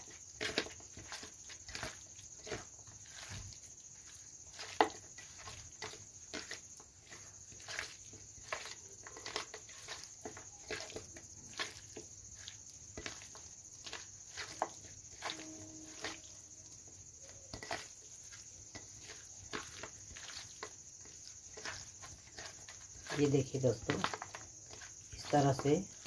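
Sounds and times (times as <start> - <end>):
wet squishes of meat: 0.0 - 26.0
meat clicking against metal plate: 0.1 - 26.0.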